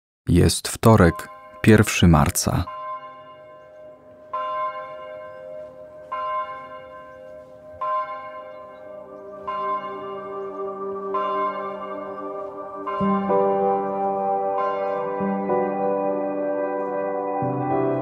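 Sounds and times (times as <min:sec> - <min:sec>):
bell ringing: 0:00.9 - 0:17.7
low steady tone: 0:00.9 - 0:17.7.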